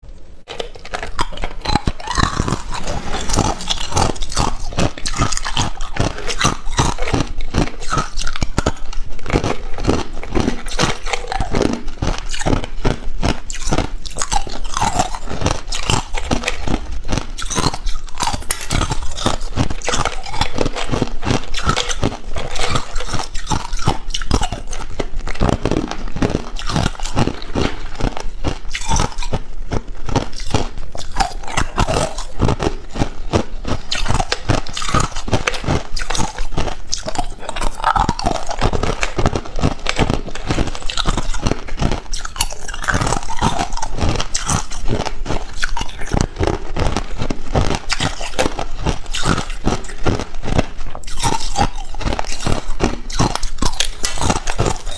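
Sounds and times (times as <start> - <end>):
ice being chewed: 0.5 - 54.9.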